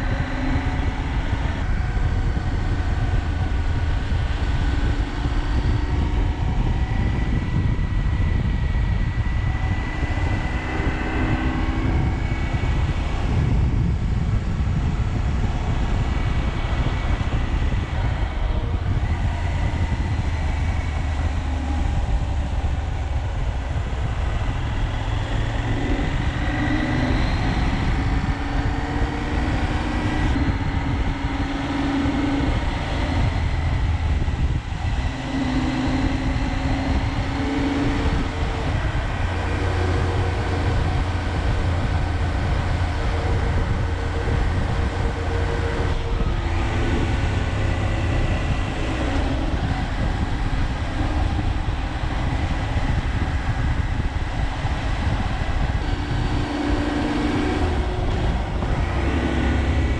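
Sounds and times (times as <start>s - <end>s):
low rumble: 0.0s - 59.9s
motorcycle engine running: 0.0s - 59.9s.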